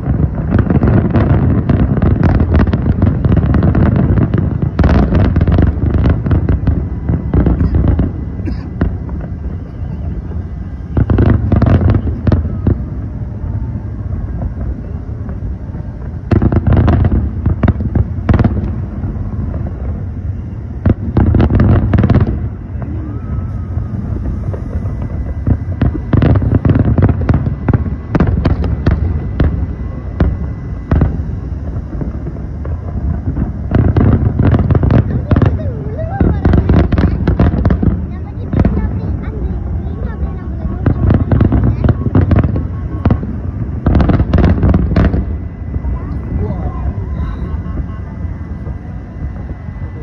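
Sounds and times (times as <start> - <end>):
continuous low rumble: 0.0 - 50.0
firework bursts and crackle: 0.0 - 50.0
volleys of firework bangs: 0.0 - 50.0.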